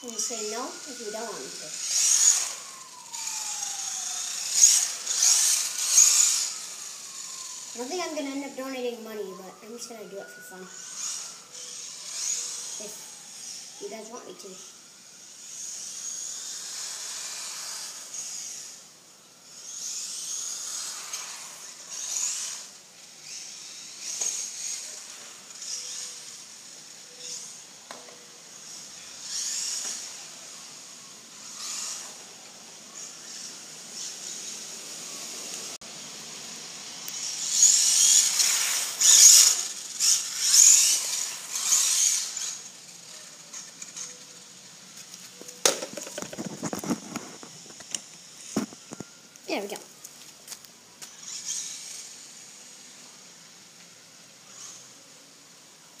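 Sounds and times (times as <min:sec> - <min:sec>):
electric motor whirring: 0:00.0 - 0:53.7, 0:54.4 - 0:55.2.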